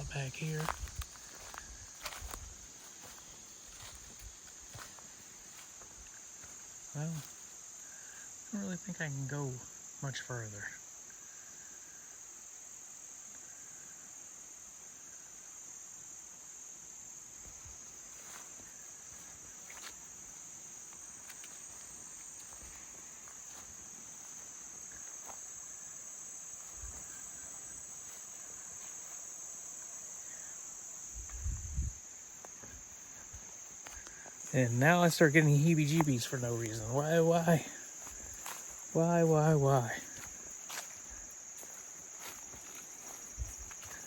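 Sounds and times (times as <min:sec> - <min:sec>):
insects buzzing: 0:00.0 - 0:44.0.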